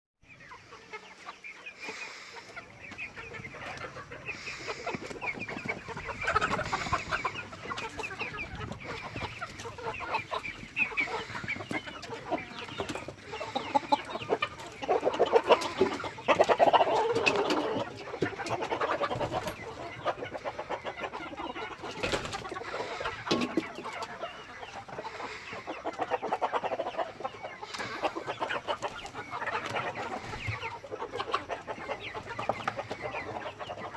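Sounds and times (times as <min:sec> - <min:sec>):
chickens clucking: 0:00.2 - 0:33.9.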